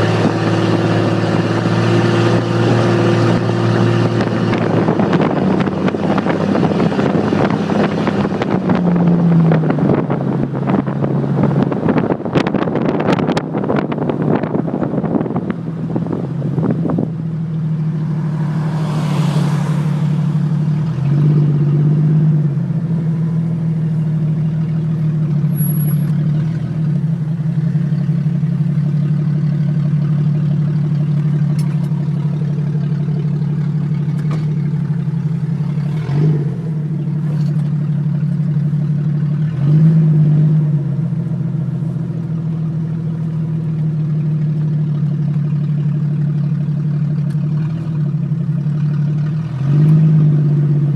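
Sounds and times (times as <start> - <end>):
loud engine exhaust drone: 0.0 - 50.9.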